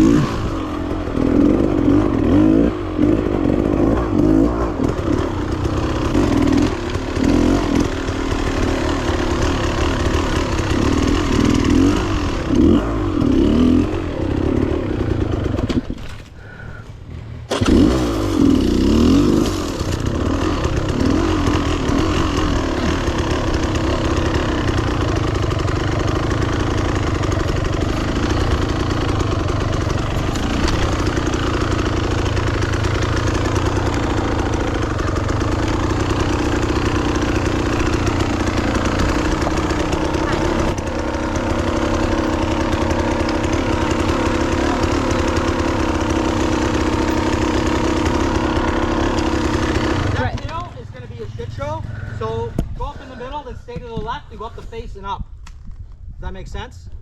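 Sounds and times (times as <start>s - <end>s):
dirt bike engine revving: 0.0s - 53.4s.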